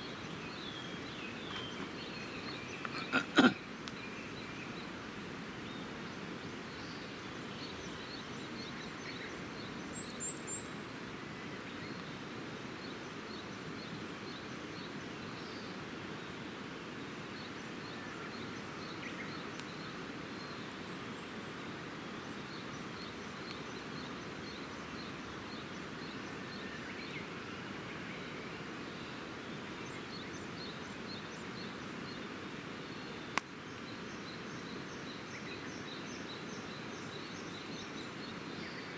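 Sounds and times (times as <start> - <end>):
small birds chirping: 0.0 - 5.0, 5.6 - 16.5, 17.2 - 38.9
steady outdoor hiss: 0.0 - 38.9.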